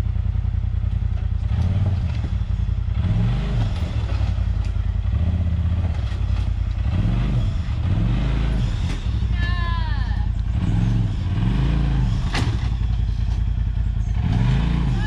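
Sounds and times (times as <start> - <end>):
utility vehicle engine revving: 0.7 - 15.0.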